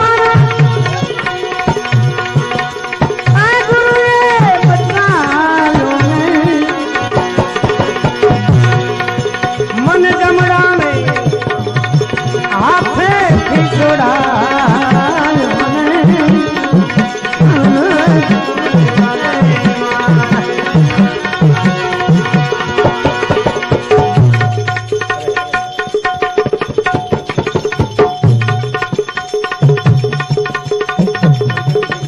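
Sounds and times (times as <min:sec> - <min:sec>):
hand drums beating: 0:00.0 - 0:32.0.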